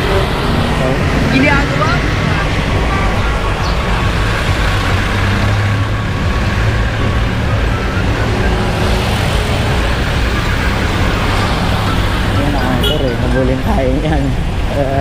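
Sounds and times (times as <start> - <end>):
passing traffic: 0.0 - 15.0
wind and road noise rumble: 0.0 - 15.0.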